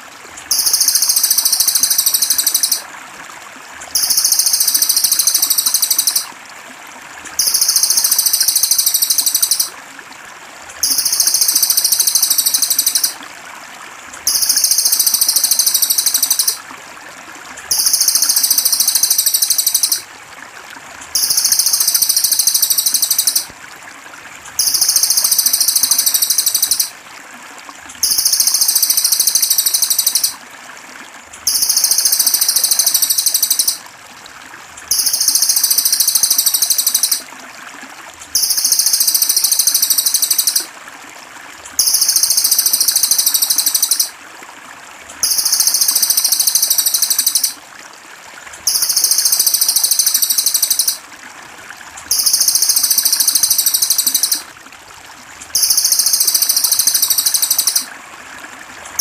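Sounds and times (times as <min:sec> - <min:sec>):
trickling water: 0:00.0 - 0:59.0.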